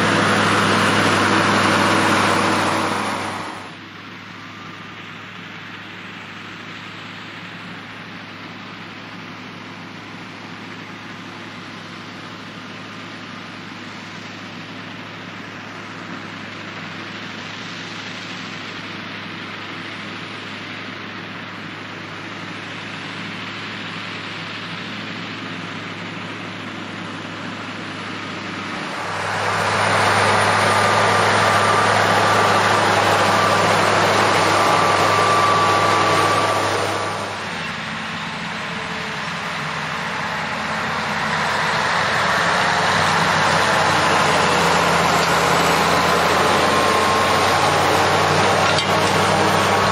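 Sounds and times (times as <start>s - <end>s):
high engine whine: 0.0s - 49.9s
tractor diesel engine droning: 0.0s - 49.9s.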